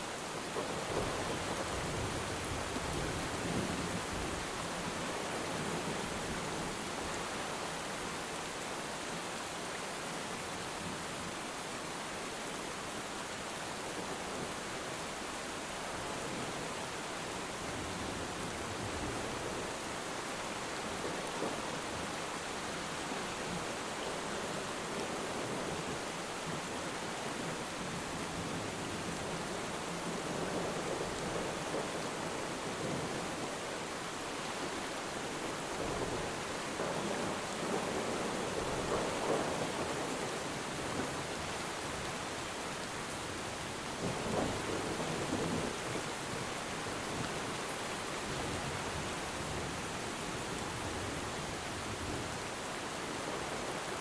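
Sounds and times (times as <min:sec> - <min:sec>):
rain falling on water: 0:00.0 - 0:54.0.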